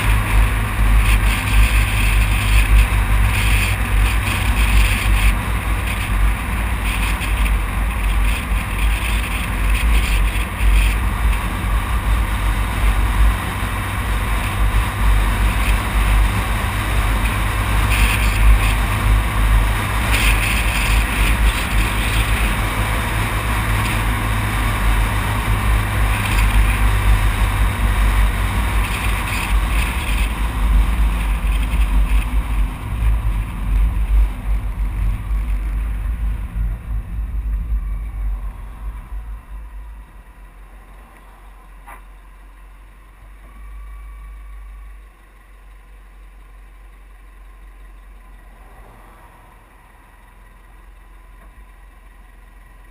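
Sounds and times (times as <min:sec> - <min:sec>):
tyre and road noise: 0:00.0 - 0:52.9.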